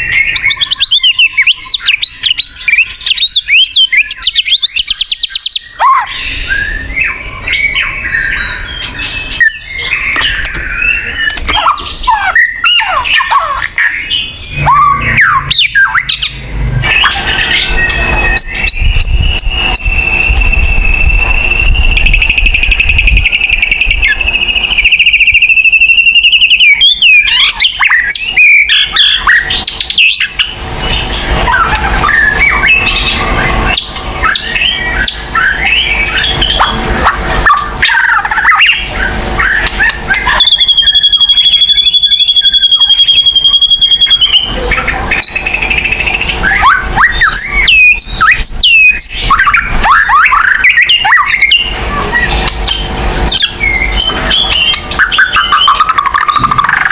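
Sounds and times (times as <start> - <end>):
bird singing whistles and chirps: 0.0 - 56.9
bird trill: 0.0 - 56.9.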